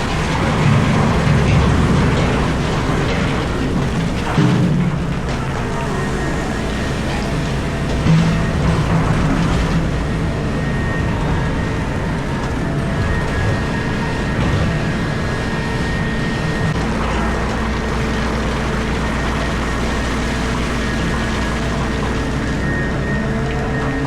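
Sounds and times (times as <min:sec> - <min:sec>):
deep hum: 0:00.0 - 0:24.0
excavator diesel drone: 0:00.0 - 0:24.0.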